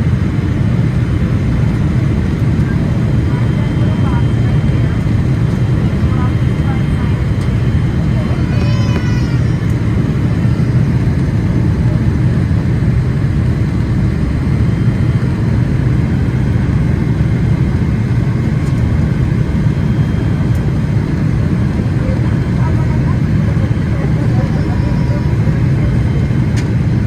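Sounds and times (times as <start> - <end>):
airplane cabin engine rumble: 0.0 - 27.0.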